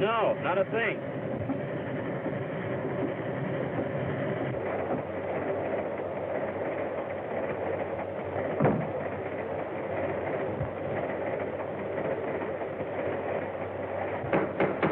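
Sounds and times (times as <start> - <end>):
train wheels rumbling and rattling: 0.0 - 14.9.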